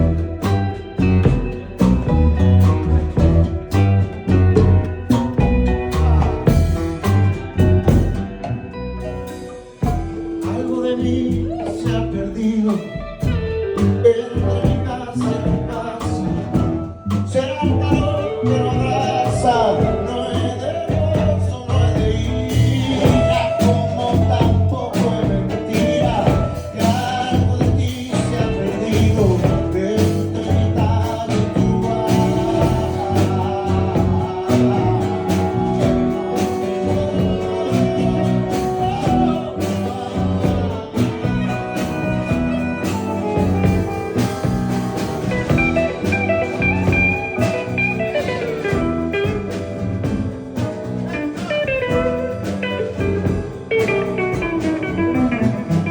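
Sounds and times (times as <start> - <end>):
bluesy jam ensemble music: 0.0 - 55.9.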